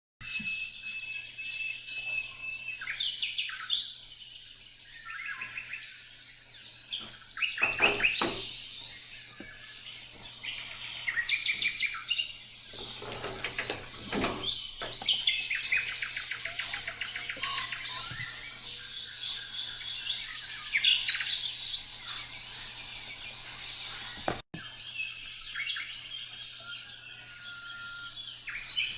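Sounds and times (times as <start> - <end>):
birds chirping and trilling: 0.2 - 28.9.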